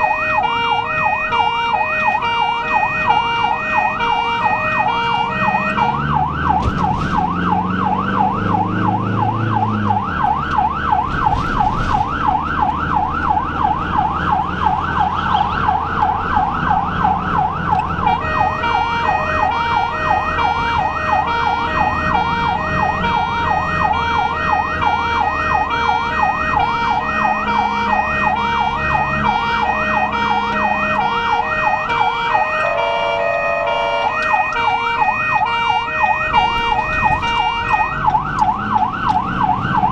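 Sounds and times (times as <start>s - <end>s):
ambulance siren yelping: 0.0s - 39.9s
engine running: 3.1s - 33.0s, 33.7s - 39.9s.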